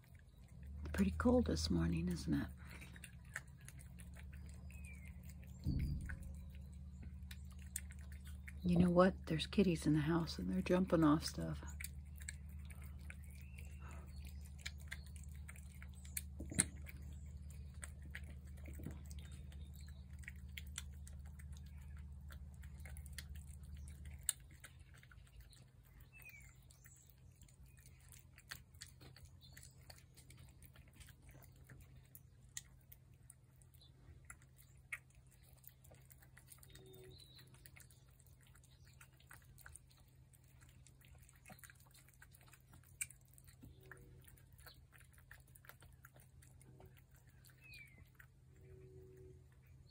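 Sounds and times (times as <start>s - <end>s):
cats chewing food: 0.0s - 49.9s
low steady hum: 0.0s - 49.9s.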